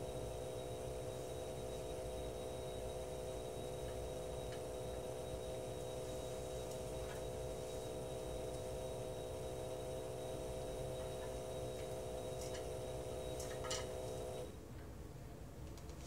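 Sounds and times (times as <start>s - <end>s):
sampling pump humming: 0.0s - 14.6s.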